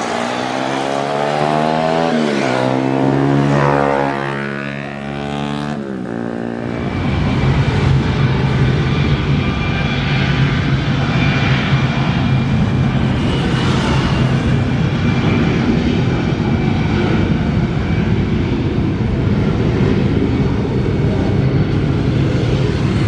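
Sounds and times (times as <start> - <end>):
jet engine rumble while taxiing: 0.0 - 23.0
jet engines whining at takeoff: 0.0 - 23.0.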